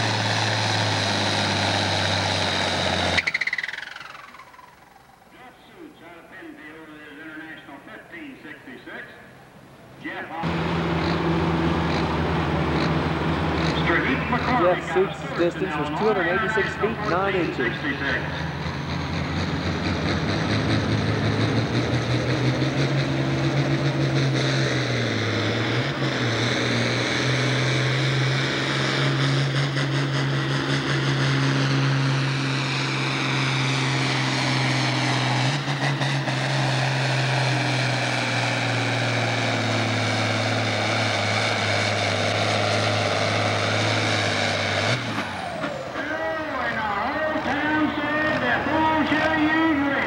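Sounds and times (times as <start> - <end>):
tractor diesel engine full throttle: 0.0 - 50.0.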